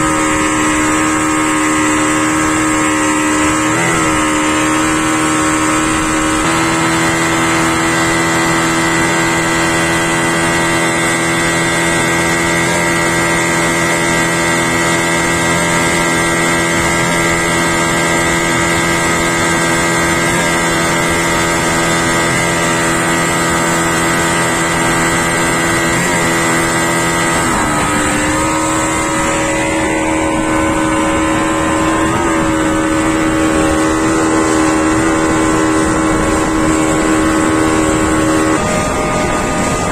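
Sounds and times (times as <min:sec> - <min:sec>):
outboard motor running at high speed: 0:00.0 - 0:39.9.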